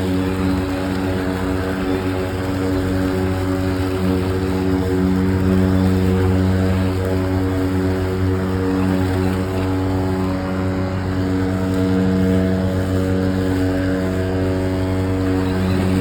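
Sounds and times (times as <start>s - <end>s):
electric lawn mower humming: 0.0s - 16.0s.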